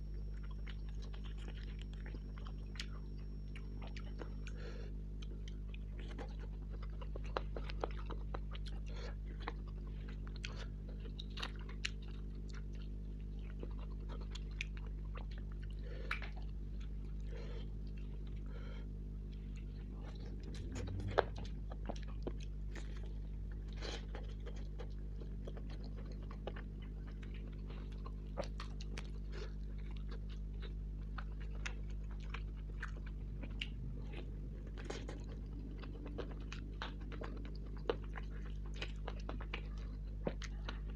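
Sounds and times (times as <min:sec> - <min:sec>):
chewing and biting: 0:00.0 - 0:40.9
steady low hum: 0:00.0 - 0:40.9.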